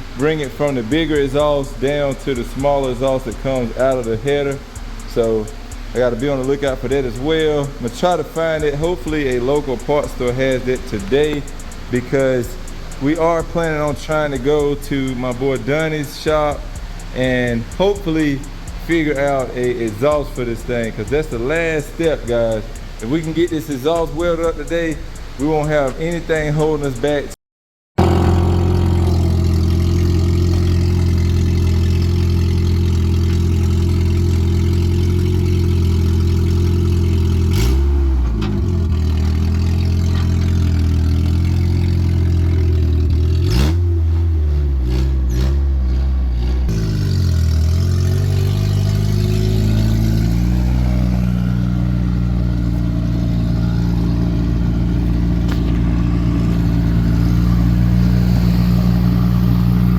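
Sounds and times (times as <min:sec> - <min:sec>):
car engine revving: 0:00.0 - 0:27.3, 0:28.0 - 0:59.9.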